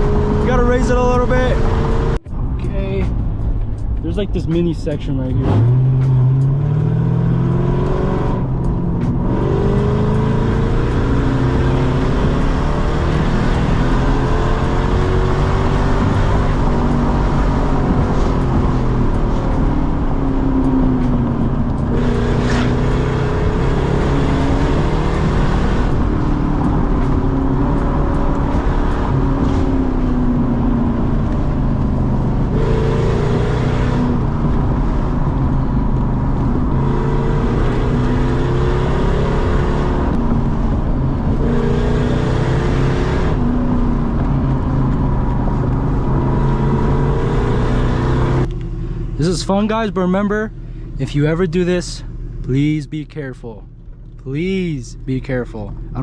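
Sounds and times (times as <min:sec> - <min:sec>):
car engine revving with loud exhaust: 0:00.0 - 0:56.0.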